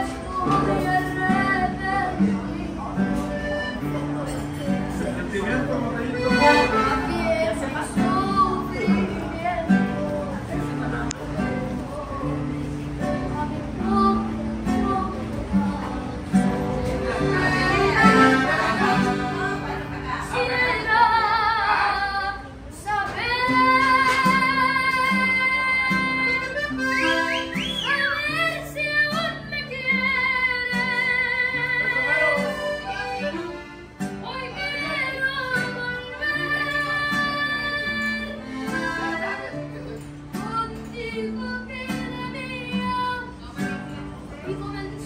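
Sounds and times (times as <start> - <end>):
boy singing with vibrato: 0.0 - 4.5, 6.9 - 19.7, 20.3 - 33.2, 34.2 - 43.8, 44.4 - 45.0
acoustic guitars plucking: 0.0 - 45.0.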